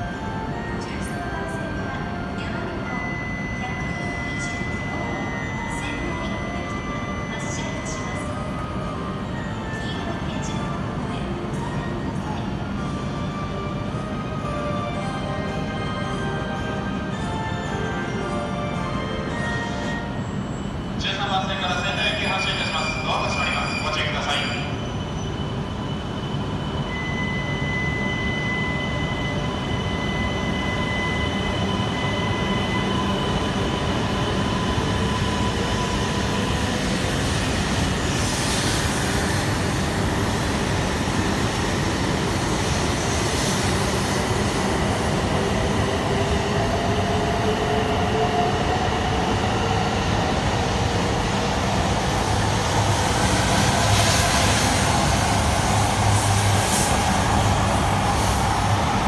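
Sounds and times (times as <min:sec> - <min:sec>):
steady high tone: 0:00.0 - 0:59.0.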